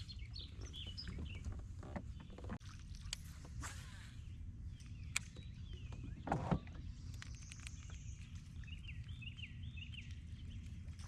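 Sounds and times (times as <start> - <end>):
birds chirping: 0.0 - 2.6, 3.2 - 11.0.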